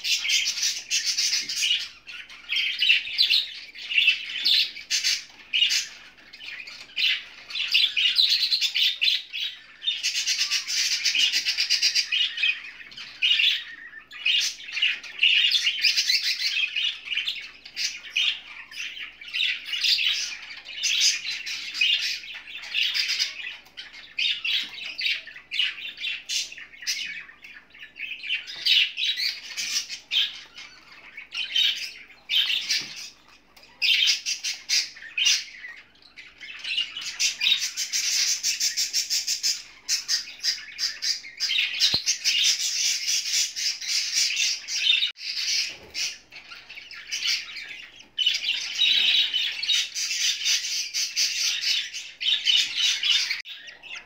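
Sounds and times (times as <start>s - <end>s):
budgerigar squawking and chirping: 0.0s - 54.0s.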